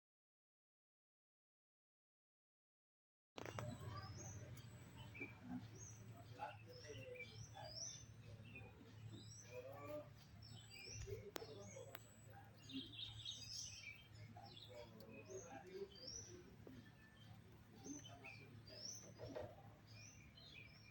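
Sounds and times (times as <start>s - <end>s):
birds chirping: 3.4s - 20.9s.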